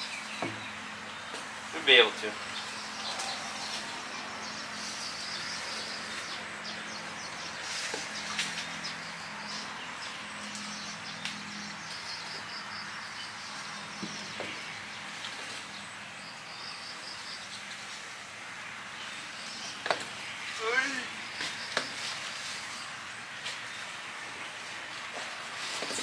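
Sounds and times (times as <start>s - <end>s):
birds chirping: 0.0s - 26.0s
insects trilling: 0.0s - 26.0s.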